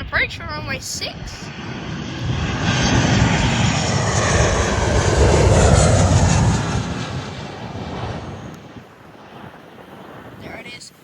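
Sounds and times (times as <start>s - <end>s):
jet engines passing overhead: 0.0s - 11.0s.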